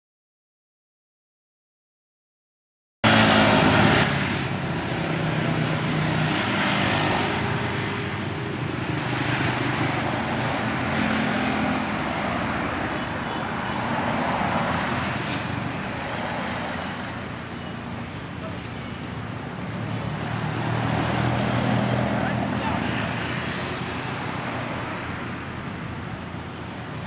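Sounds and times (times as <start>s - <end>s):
vehicles passing: 3.0s - 27.0s.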